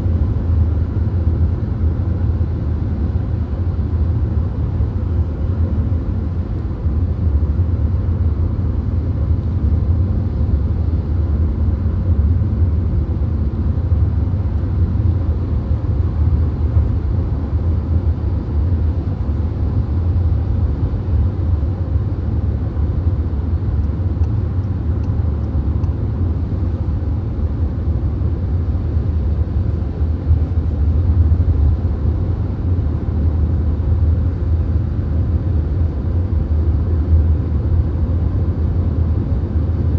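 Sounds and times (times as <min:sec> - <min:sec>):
car road rumble and tyre noise: 0:00.0 - 0:39.9.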